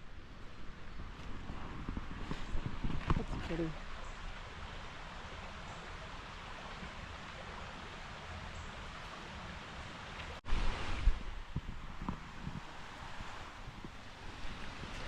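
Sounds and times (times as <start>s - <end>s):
creek water rushing: 0.0s - 15.0s
low wind rumble on microphone: 0.0s - 15.0s.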